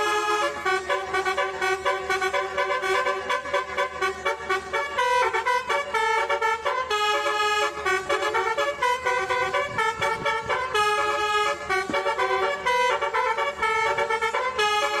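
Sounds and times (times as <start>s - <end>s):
electric horn playing a melody: 0.0s - 15.0s.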